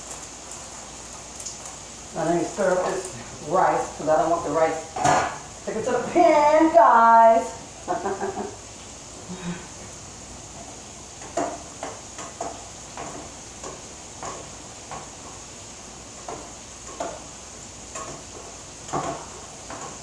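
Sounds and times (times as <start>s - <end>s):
meat sizzling in a skillet: 0.0s - 20.0s.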